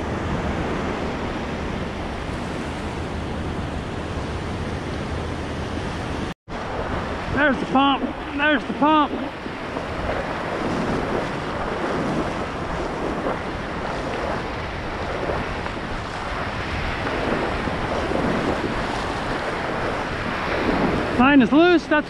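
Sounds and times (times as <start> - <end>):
surf washing over sand: 0.0 - 22.0
wind buffeting microphone: 0.0 - 22.0.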